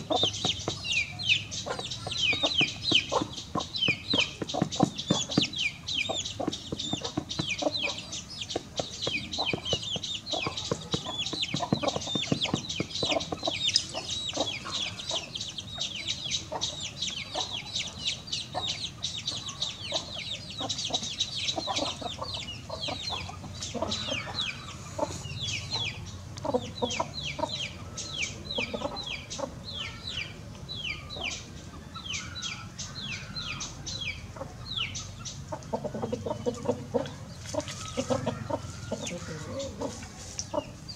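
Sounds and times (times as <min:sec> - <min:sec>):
chicks peeping: 0:00.0 - 0:40.9
hen clucking: 0:00.0 - 0:40.9.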